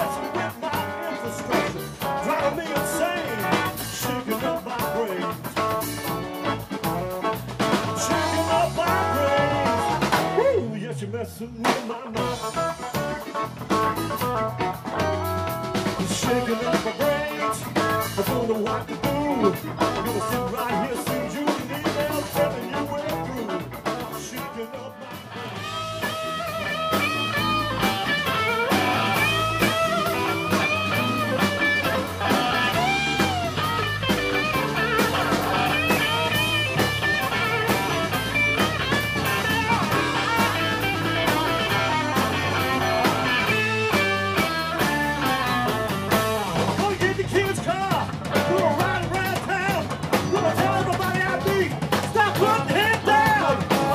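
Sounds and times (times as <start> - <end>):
harmonica lead lines: 0.0 - 10.6, 12.2 - 50.9
blues band playing: 0.0 - 53.9.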